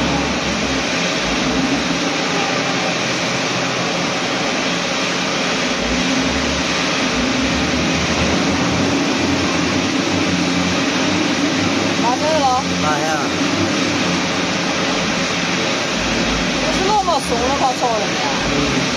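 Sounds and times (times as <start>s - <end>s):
low machinery hum: 0.0s - 18.9s.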